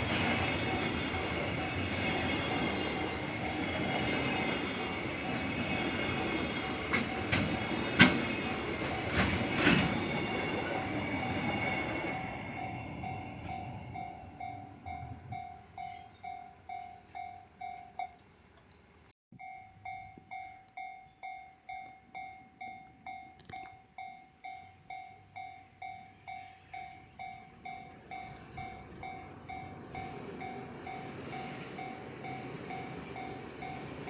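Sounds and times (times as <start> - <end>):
faint low train rumble: 0.0 - 34.0.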